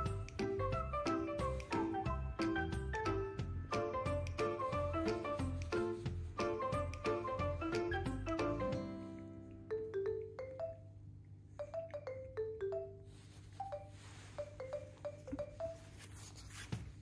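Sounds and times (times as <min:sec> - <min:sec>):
mallet percussion melody: 0:00.0 - 0:09.0, 0:09.6 - 0:11.0, 0:11.6 - 0:16.0.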